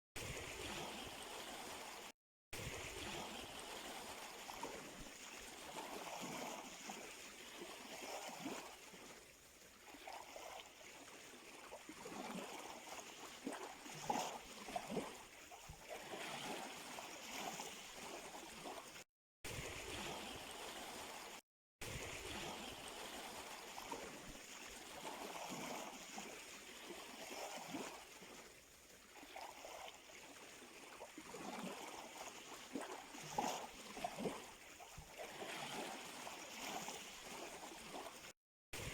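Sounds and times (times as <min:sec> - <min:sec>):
small waves lapping on shore: 0:00.2 - 0:38.9
water gurgling and trickling: 0:00.2 - 0:38.9.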